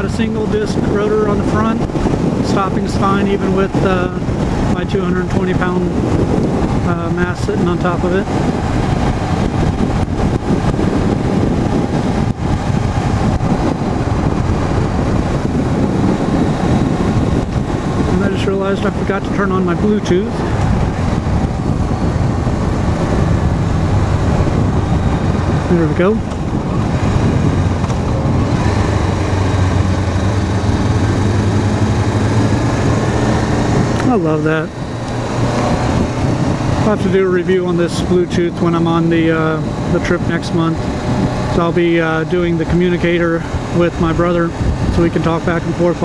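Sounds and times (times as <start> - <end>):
motorcycle engine running: 0.0 - 46.0
road noise: 0.0 - 46.0
wind rushing past microphone: 0.0 - 46.0.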